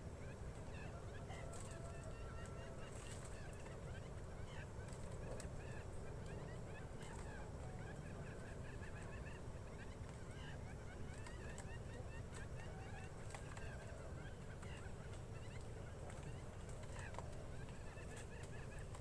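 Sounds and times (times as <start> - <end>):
quail calling: 0.1 - 19.0.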